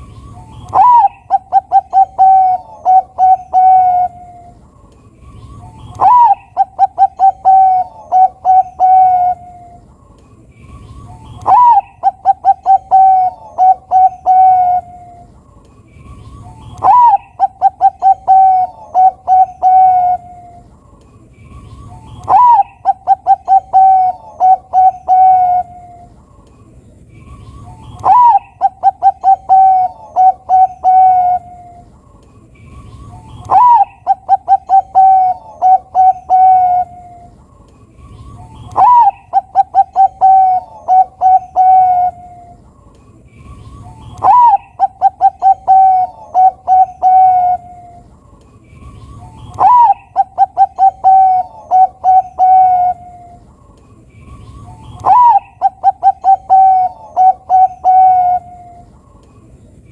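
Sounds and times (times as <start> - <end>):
dove cooing: 0.2 - 4.6, 5.4 - 9.9, 10.8 - 15.4, 16.3 - 20.6, 21.8 - 26.2, 27.3 - 31.9, 32.7 - 37.4, 38.2 - 42.8, 43.7 - 48.1, 48.8 - 53.5, 54.5 - 58.9.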